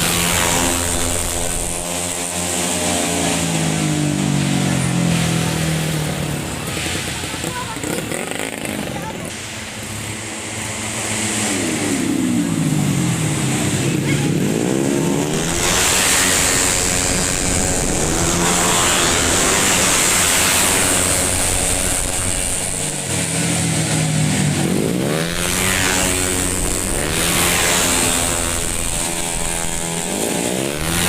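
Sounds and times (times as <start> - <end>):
distant engines running: 0.0 - 31.0
scooters racing past: 0.0 - 31.0.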